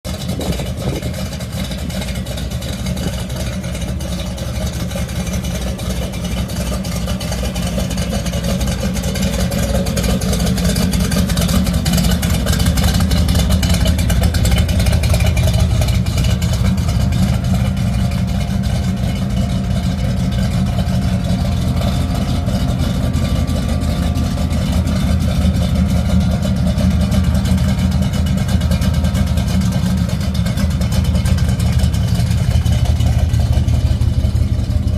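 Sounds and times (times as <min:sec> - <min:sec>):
car engine exhaust rumble: 0:00.0 - 0:34.9.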